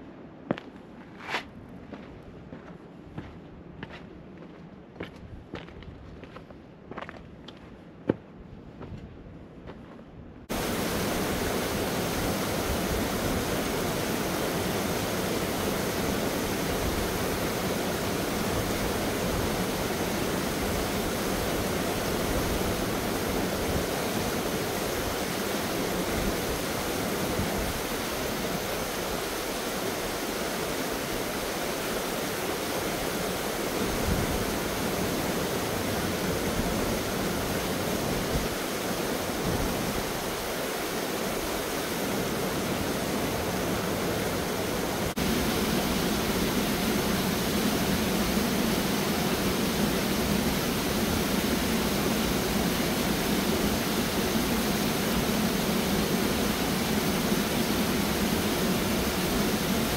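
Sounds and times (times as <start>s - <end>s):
waterfall rushing into pool: 10.5s - 59.9s.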